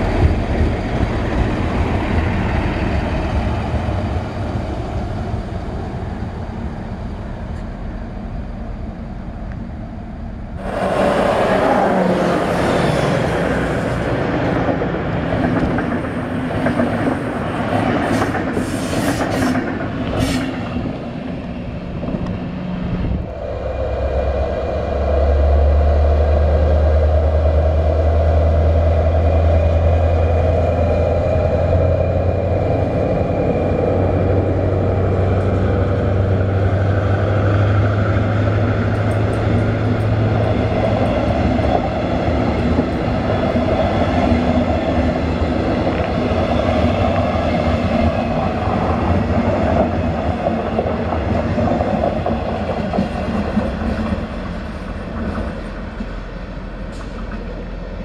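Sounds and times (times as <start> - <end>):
diesel locomotive engine hum: 0.0 - 58.0
train wheels rolling on rails: 0.0 - 58.0.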